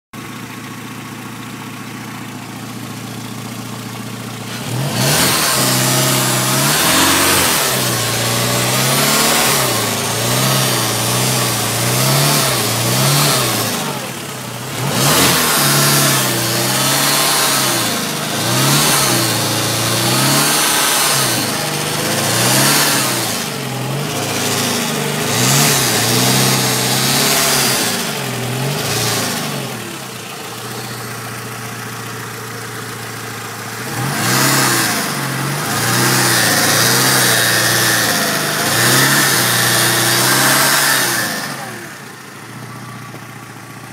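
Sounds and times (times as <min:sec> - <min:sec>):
car engine idling and revving: 0:00.2 - 0:43.9.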